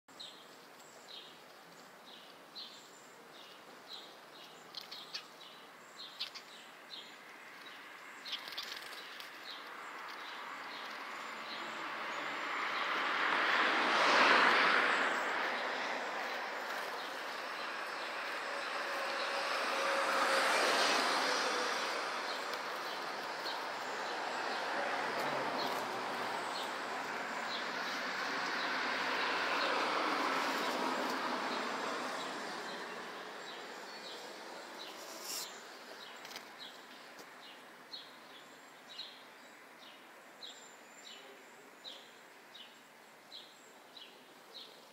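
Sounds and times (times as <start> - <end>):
small birds chirping: 0.1 - 44.9
passing traffic: 1.8 - 44.7.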